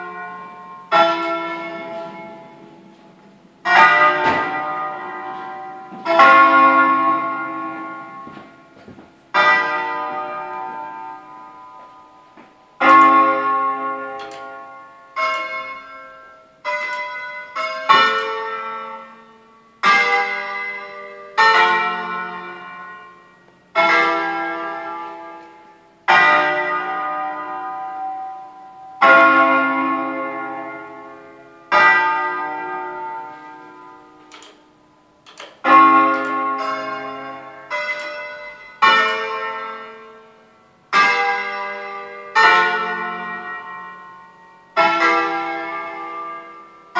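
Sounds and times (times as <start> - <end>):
church bells ringing: 0.0 - 46.9.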